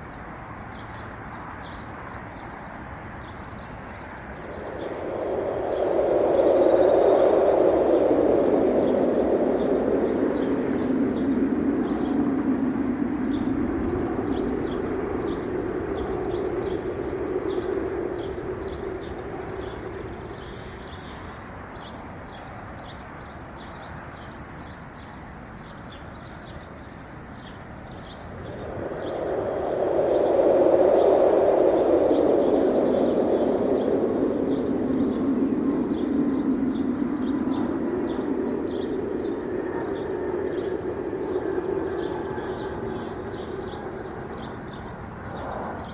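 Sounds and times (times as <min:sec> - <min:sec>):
small birds chirping: 0:00.0 - 0:45.9
wind blowing in gusts: 0:00.0 - 0:45.9.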